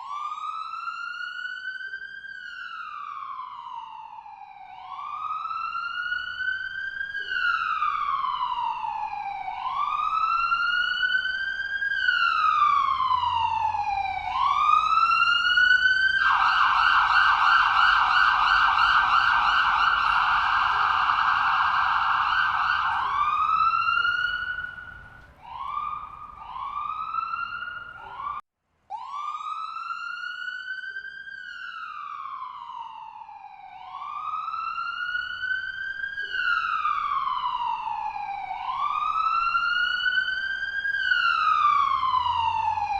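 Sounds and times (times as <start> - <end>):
ambulance siren: 0.0 - 42.9.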